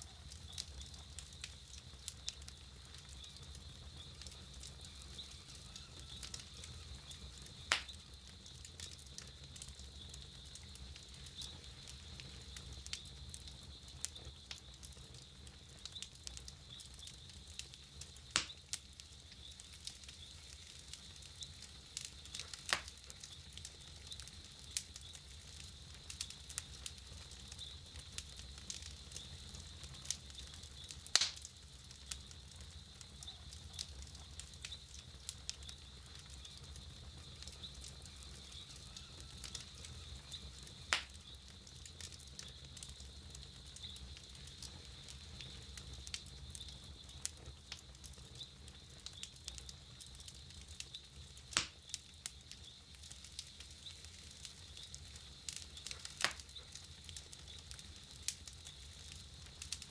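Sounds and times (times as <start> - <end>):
campfire crackling: 0.0 - 59.9
sharp fire pops: 0.0 - 59.9.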